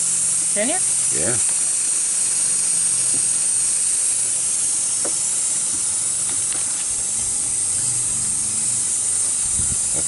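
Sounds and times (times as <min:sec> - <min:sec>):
compressed air hissing: 0:00.0 - 0:10.0.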